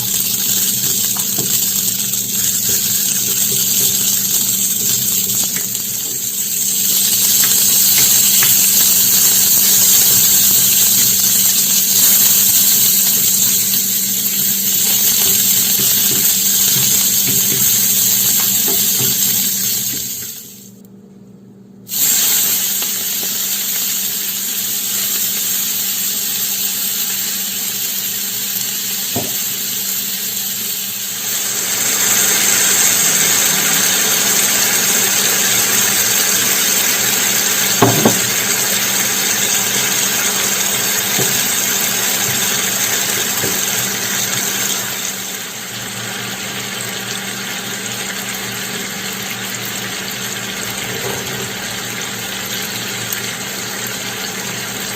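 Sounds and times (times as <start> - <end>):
water running from tap: 0.0 - 20.7, 21.9 - 54.9.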